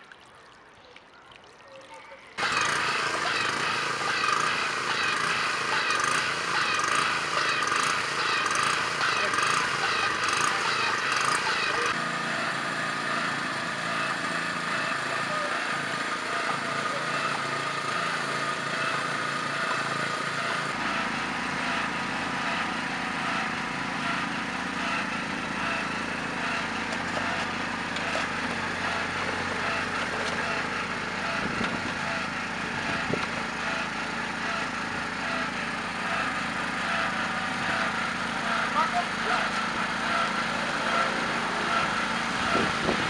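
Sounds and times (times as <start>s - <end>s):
portable water pumps running: 0.0s - 43.0s.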